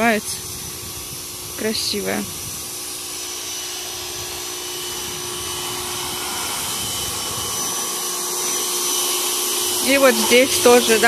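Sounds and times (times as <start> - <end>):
pressure washer running: 0.0 - 11.0.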